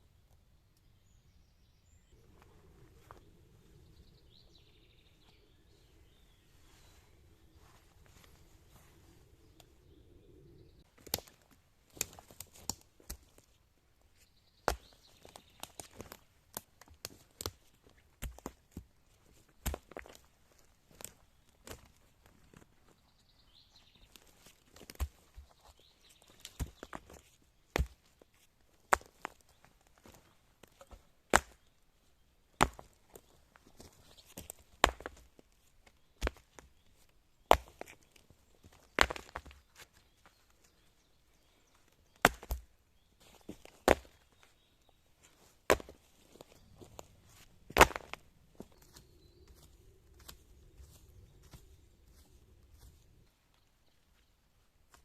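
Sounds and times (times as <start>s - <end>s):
twigs and leaves crunching: 2.1s - 55.0s.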